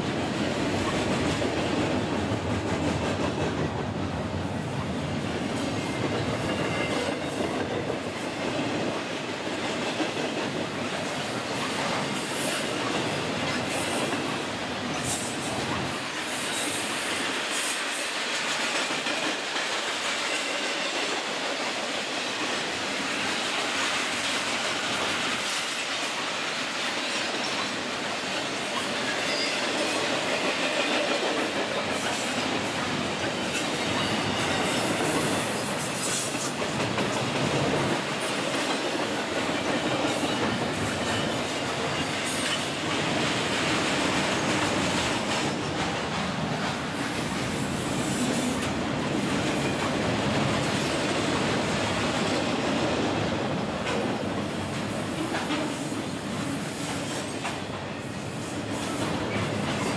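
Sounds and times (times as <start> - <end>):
train wheels rolling on rails: 0.0 - 59.9.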